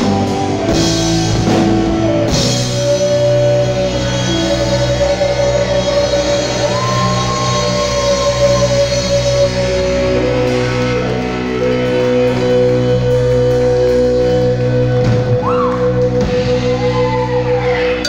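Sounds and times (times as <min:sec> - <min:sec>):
held keyboard and bass chords: 0:00.0 - 0:18.0.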